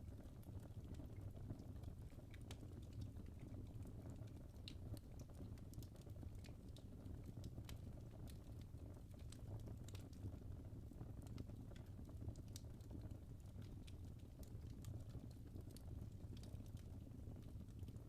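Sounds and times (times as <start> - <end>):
fire crackling and popping: 0.0 - 18.0
low rumble of fire: 0.0 - 18.0.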